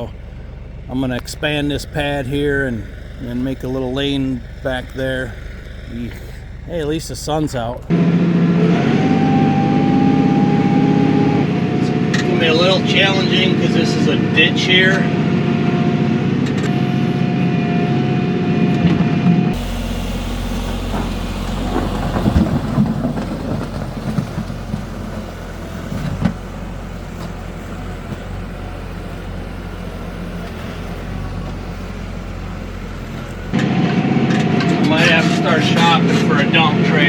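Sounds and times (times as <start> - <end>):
high whine: 0.0 - 37.0
tractor diesel engine drone: 0.0 - 37.0.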